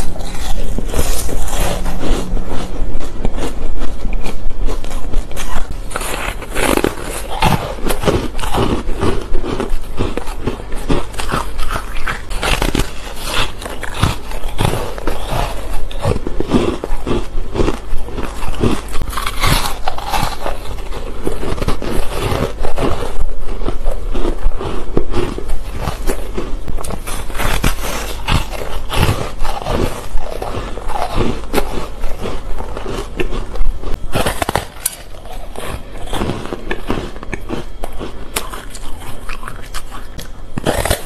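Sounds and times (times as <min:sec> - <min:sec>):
ice crunching while chewed: 0:00.0 - 0:41.0.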